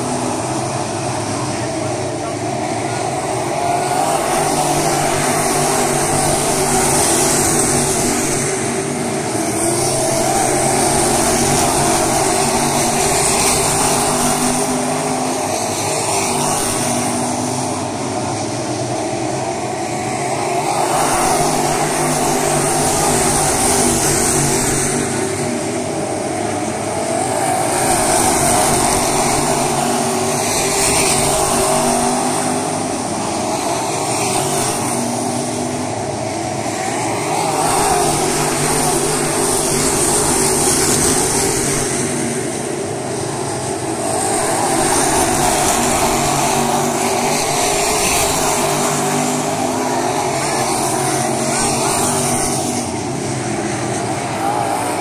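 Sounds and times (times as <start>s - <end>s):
race car engines at high revs: 0.0s - 55.0s.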